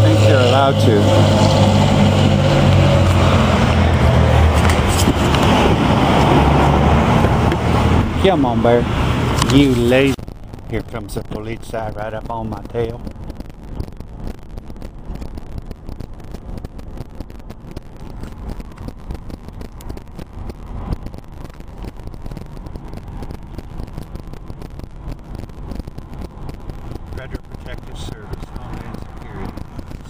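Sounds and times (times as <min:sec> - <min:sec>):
car cabin road and engine noise: 0:00.0 - 0:30.0.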